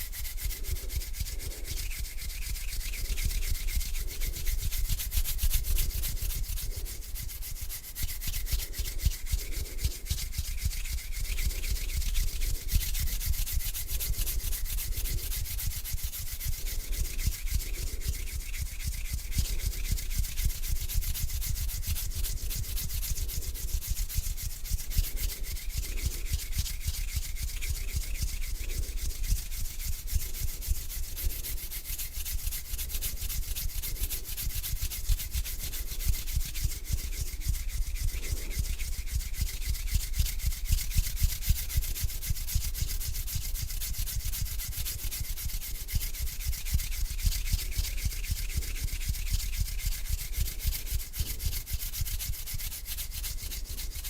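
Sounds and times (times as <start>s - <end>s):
hands rubbing together: 0.0s - 54.0s.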